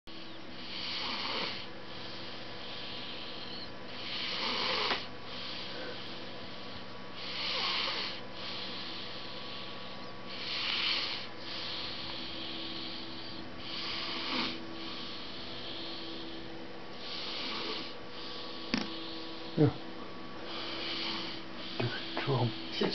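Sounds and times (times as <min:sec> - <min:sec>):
steady hum: 0:00.1 - 0:22.9
person snoring: 0:00.6 - 0:01.7, 0:02.7 - 0:06.4, 0:07.2 - 0:16.4, 0:17.0 - 0:19.8, 0:20.5 - 0:22.5.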